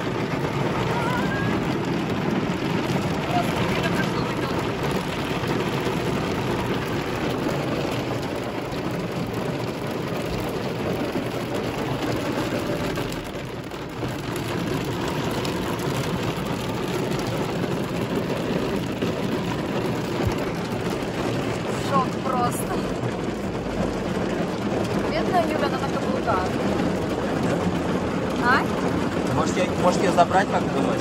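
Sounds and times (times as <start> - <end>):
heavy rain on a car: 0.0 - 31.0.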